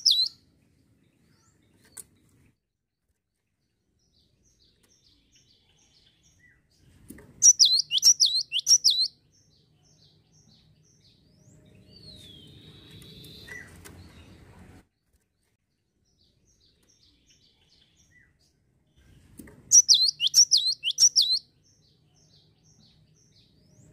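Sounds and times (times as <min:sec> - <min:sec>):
bird singing: 0:00.0 - 0:02.5, 0:03.5 - 0:14.5, 0:15.7 - 0:19.1, 0:19.7 - 0:23.9
low background noise: 0:00.0 - 0:23.9.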